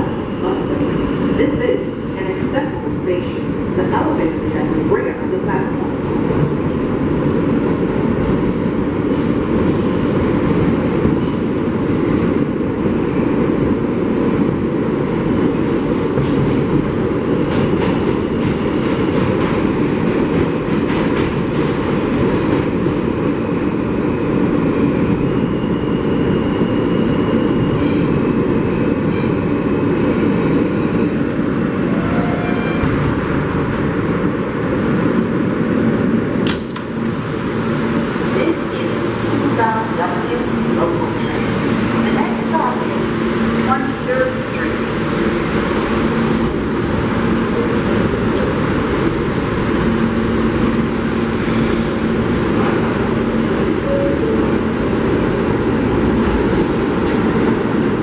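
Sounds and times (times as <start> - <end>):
subway train rumbling on track: 0.0 - 58.0.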